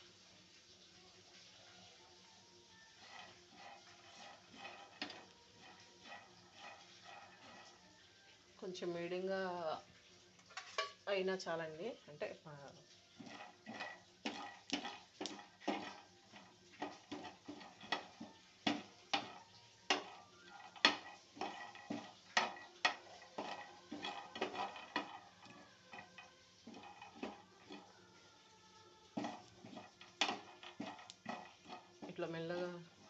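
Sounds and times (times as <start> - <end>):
spatula scraping peanuts in pan: 2.7 - 9.8, 10.5 - 33.0.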